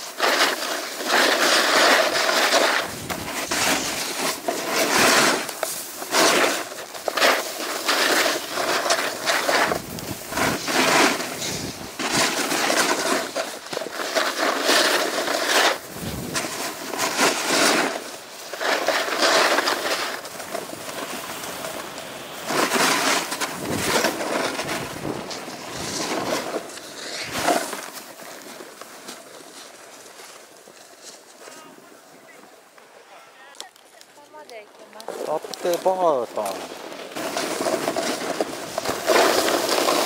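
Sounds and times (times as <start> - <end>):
snowboard edge scraping snow: 0.0 - 33.4, 34.2 - 40.0.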